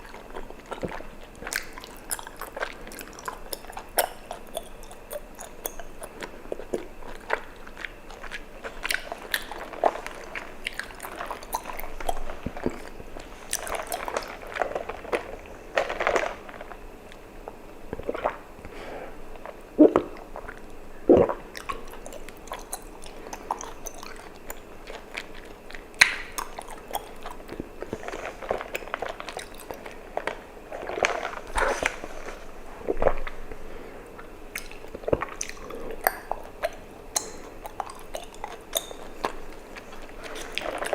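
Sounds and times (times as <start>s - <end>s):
wet chewing clicks and smacks: 0.0s - 18.7s, 19.4s - 40.9s.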